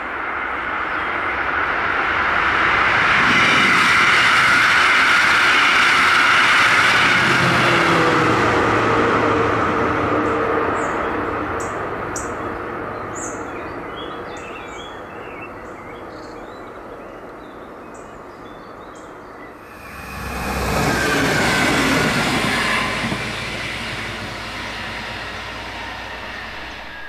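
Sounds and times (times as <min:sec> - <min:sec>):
train wheels on rail: 0:00.0 - 0:16.4, 0:19.5 - 0:27.0
train passing: 0:00.0 - 0:18.2, 0:19.0 - 0:27.0.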